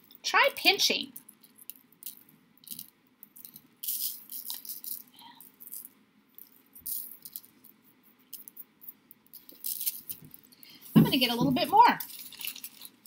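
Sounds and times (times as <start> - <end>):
plastic bag crinkling: 1.2 - 7.7, 8.3 - 13.0.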